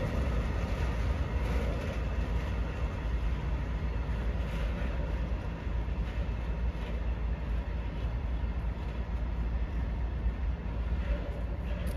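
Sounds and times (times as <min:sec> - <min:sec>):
freight train rumbling on rails: 0:00.0 - 0:11.9.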